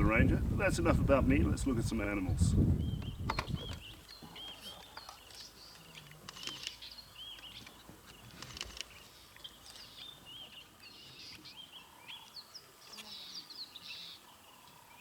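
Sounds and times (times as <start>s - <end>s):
faint birdsong: 1.8s - 15.0s.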